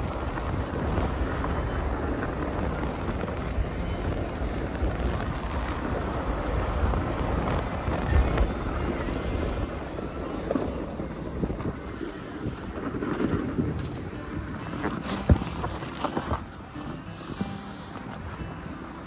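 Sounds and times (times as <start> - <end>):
wind rushing over microphone: 0.0 - 19.0
skis hissing on snow: 0.3 - 3.3, 5.8 - 18.4.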